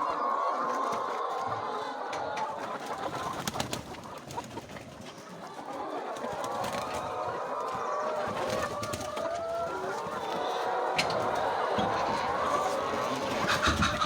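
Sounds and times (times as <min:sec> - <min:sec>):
chickens trilling and murmuring: 0:00.0 - 0:14.0.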